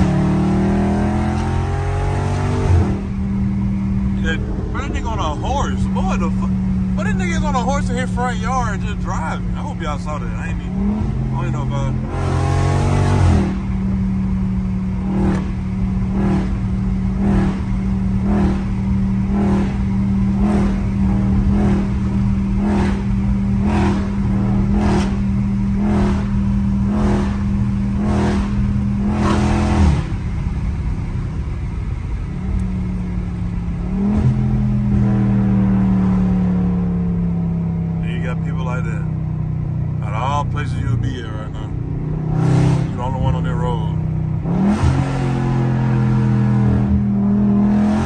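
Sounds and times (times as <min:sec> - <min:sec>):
car engine from inside cabin: 0:00.0 - 0:48.0.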